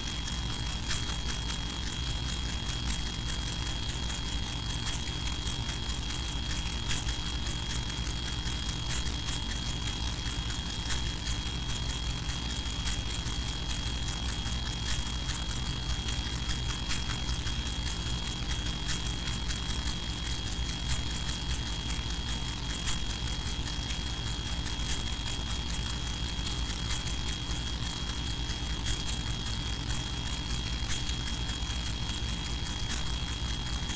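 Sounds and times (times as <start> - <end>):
faint ticks: 0.0 - 33.9.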